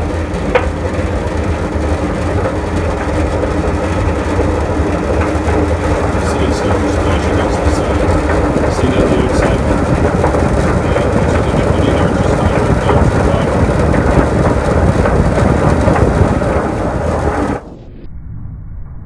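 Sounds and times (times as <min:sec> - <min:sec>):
honey extractor drum rumbling: 0:00.0 - 0:17.7.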